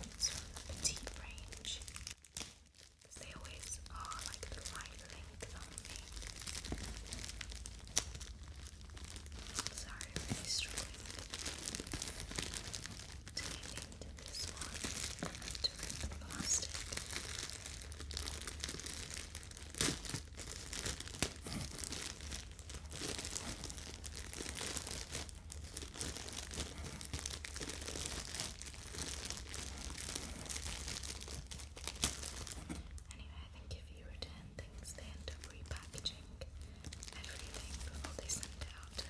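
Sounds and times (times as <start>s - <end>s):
plastic bag crinkling and tearing: 0.0s - 33.2s, 34.9s - 39.0s.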